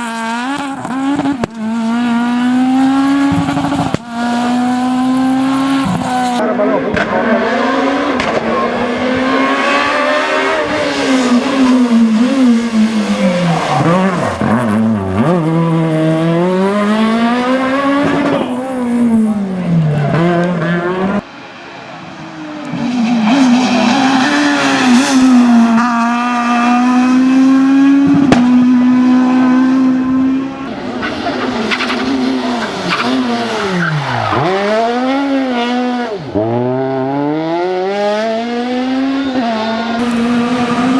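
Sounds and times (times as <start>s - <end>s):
rally car engines revving: 0.0s - 40.9s.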